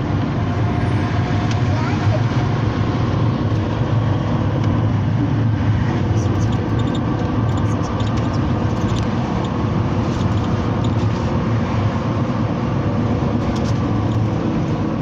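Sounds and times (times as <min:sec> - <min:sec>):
engine and road noise: 0:00.0 - 0:15.0.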